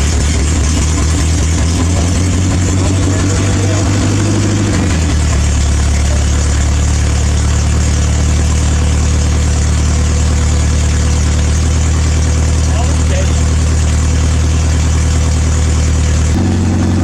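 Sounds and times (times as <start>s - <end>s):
petrol engine idling: 0.0s - 17.0s.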